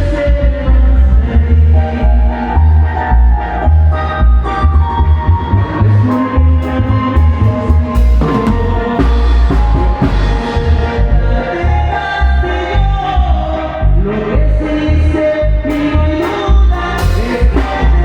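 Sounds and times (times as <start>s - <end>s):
live band music: 0.0s - 18.0s
pulsing bass beat with drums: 0.0s - 18.0s.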